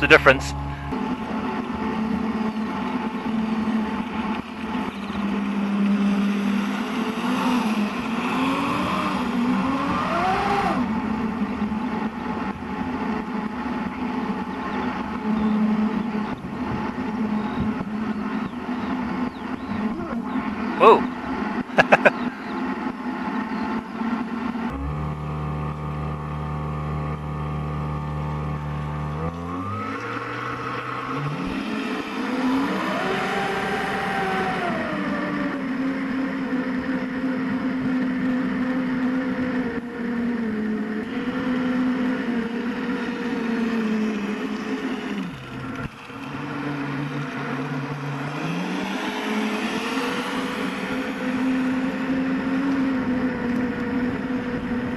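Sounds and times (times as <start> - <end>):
electric motor whine: 0.0 - 22.0, 24.2 - 54.9.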